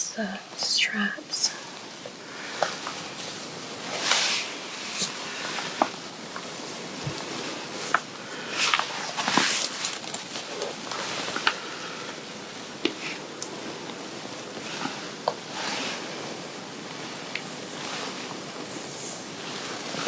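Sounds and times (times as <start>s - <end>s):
fabric rustling: 0.4s - 20.0s.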